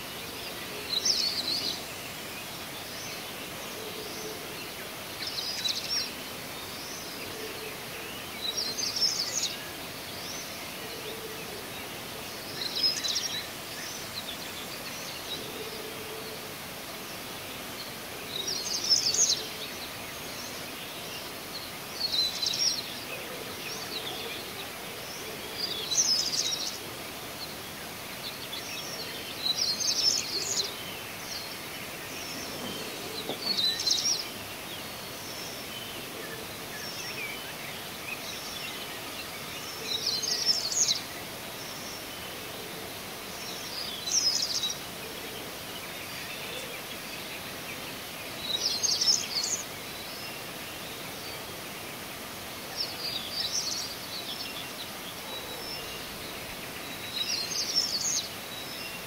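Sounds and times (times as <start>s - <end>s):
songbird singing: 0.0s - 59.0s
steady background hiss: 0.0s - 59.0s.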